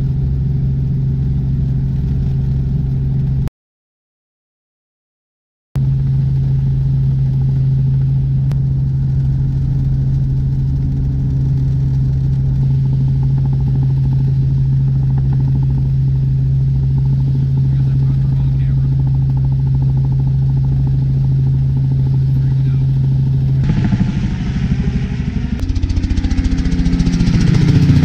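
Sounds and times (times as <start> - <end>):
helicopter drone overhead: 0.0 - 3.5, 5.8 - 28.0.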